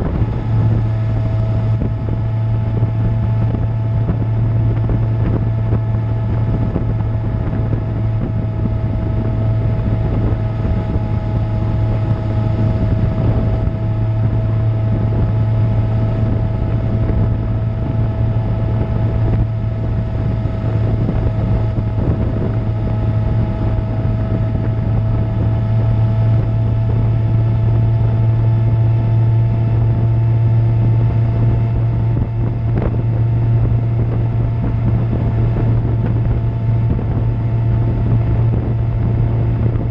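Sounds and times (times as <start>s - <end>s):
motorcycle engine droning: 0.0s - 39.9s
wind rushing over microphone: 0.0s - 39.9s.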